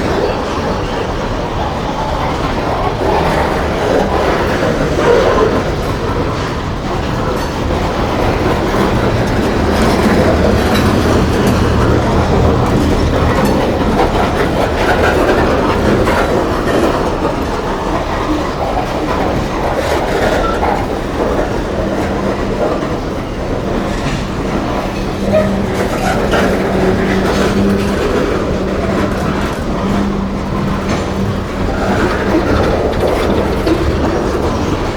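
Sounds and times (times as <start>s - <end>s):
train wheels clacking on rails: 0.0s - 34.9s.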